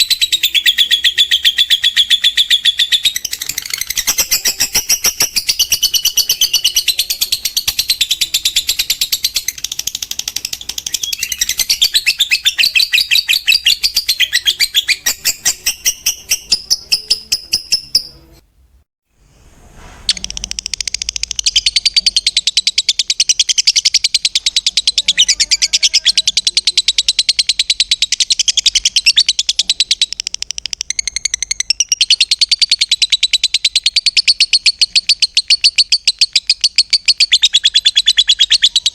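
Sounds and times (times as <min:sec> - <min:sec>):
lovebird shrill chattering: 0:00.0 - 0:18.4, 0:20.1 - 0:38.9.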